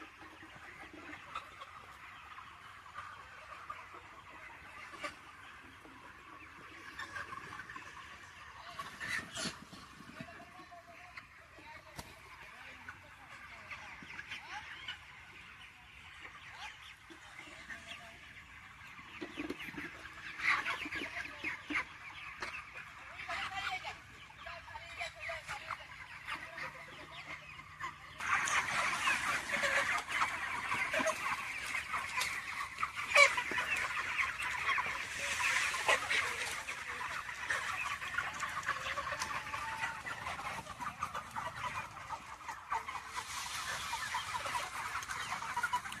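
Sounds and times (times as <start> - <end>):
chickens clucking and cheeping: 0.0 - 46.0.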